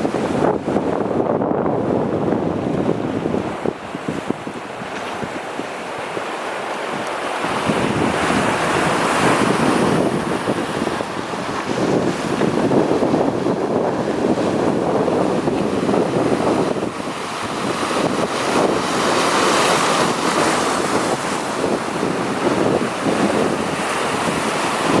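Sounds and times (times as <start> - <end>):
sea waves washing ashore: 0.0 - 25.0
wind buffeting microphone: 0.0 - 25.0.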